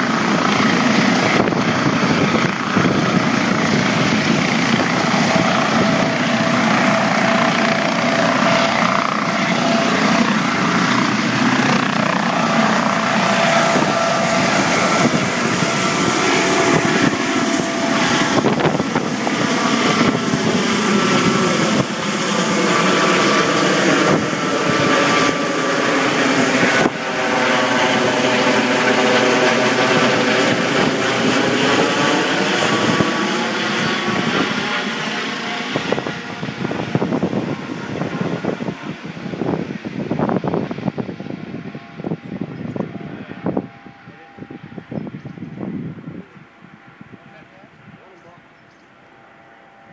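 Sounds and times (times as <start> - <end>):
helicopter lifting off: 0.0 - 49.9.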